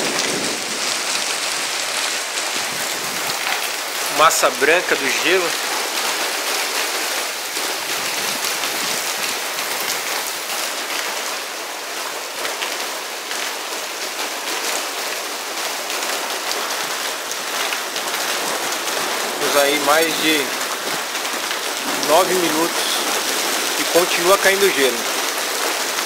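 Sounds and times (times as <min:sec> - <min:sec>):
hail and rain falling: 0:00.0 - 0:26.0.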